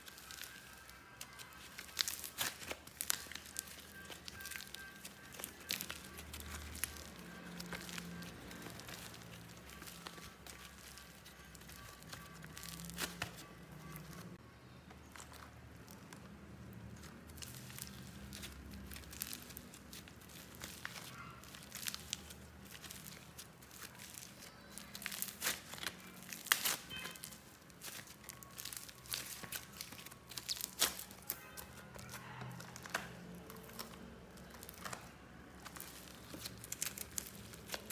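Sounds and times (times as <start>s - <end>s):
slime crackling and tearing: 0.0s - 14.4s, 15.0s - 37.9s.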